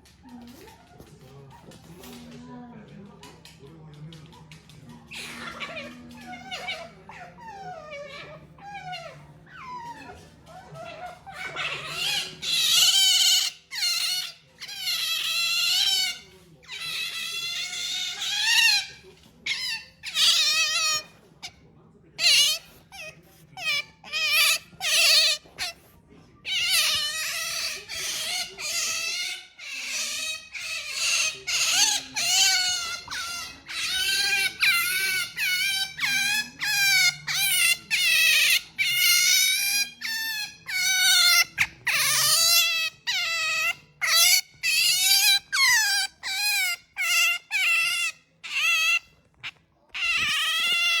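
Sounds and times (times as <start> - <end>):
otter squealing: 5.1 - 21.2, 22.2 - 51.0.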